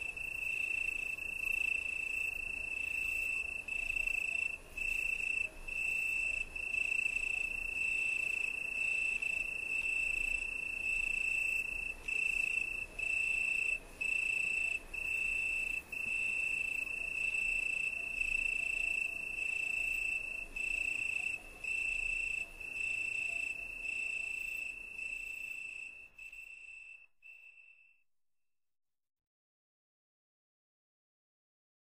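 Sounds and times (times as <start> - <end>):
cricket trilling: 0.0 - 27.9.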